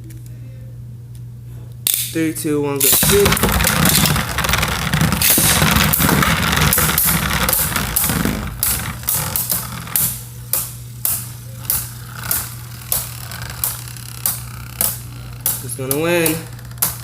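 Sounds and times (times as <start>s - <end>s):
spinning tops clacking together: 2.8s - 17.0s
spinning tops humming: 2.8s - 17.0s
spinning tops whirring scrape: 2.8s - 17.0s.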